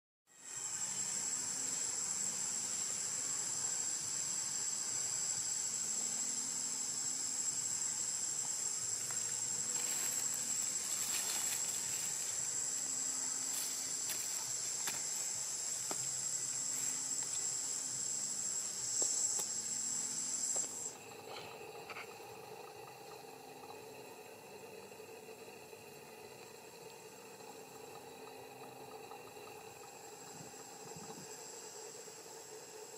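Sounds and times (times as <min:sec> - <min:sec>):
high-pitched insect drone: 0:00.3 - 0:32.9.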